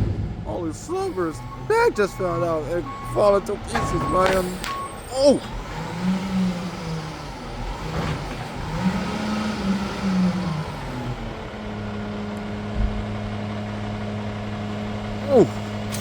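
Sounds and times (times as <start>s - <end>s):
garbage truck diesel engine revving: 0.0s - 16.0s.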